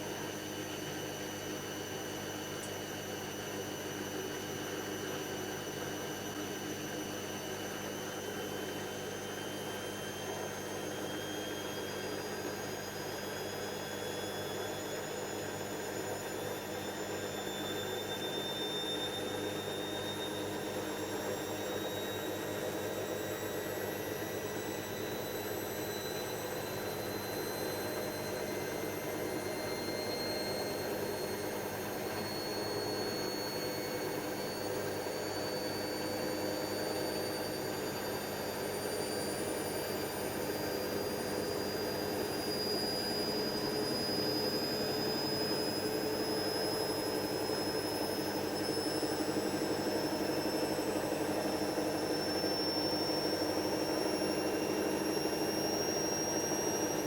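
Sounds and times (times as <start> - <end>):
washing machine motor whine: 0.0 - 57.0.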